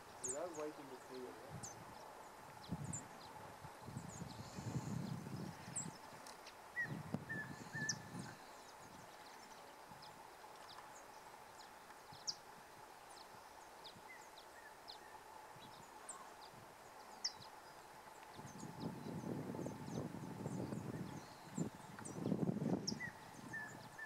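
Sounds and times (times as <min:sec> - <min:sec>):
lower whistled bird notes: 0:00.0 - 0:06.1, 0:06.7 - 0:24.0.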